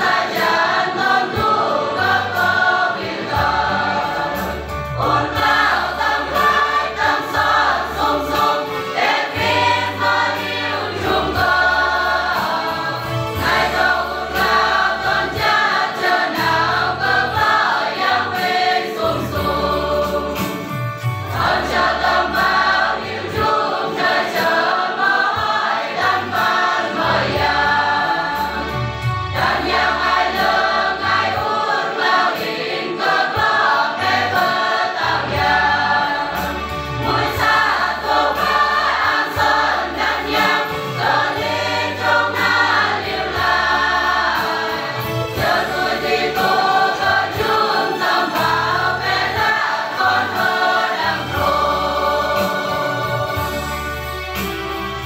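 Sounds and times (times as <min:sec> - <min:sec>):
mixed choir singing a hymn: 0:00.0 - 0:55.0.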